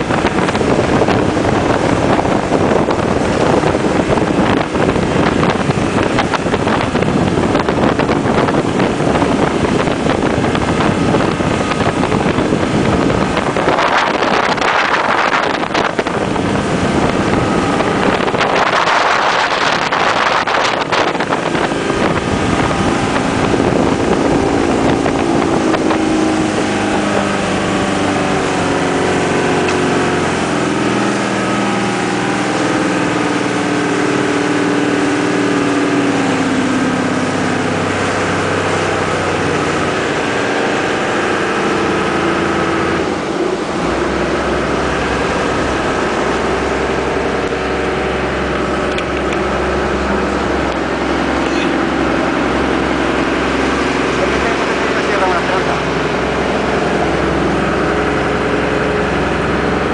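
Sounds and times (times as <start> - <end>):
motorboat engine running: 0.0 - 59.9
water rushing along hull: 0.0 - 59.9
wind on microphone: 0.0 - 59.9.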